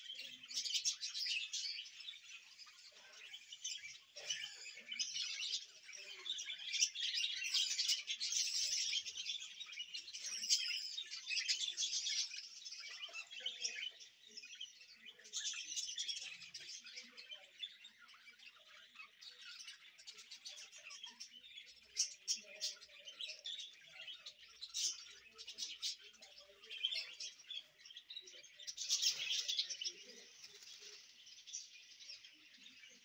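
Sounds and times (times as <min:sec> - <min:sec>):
budgerigars chattering and chirping: 0:00.0 - 0:33.0.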